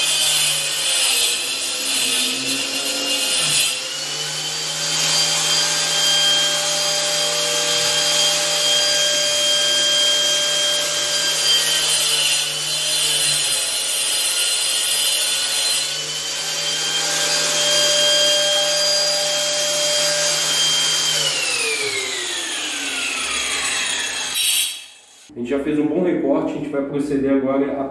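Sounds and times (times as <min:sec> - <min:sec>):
angle grinder cutting wall: 0:00.0 - 0:25.3.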